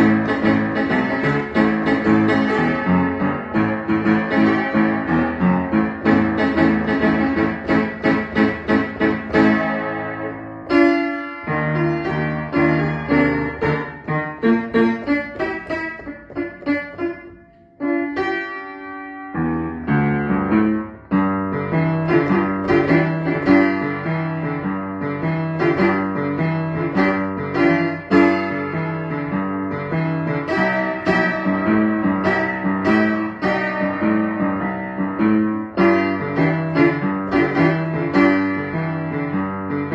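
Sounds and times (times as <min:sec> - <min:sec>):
upright piano playing: 0:00.0 - 0:39.9.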